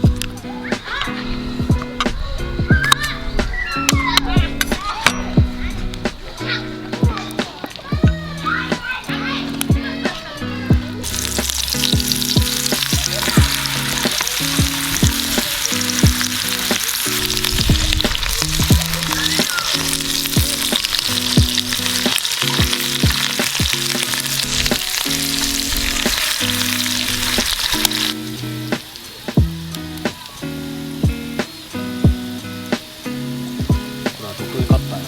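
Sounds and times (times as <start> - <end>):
fries sizzling in hot oil: 0.0 - 35.0
music with low notes and beat: 0.0 - 35.0.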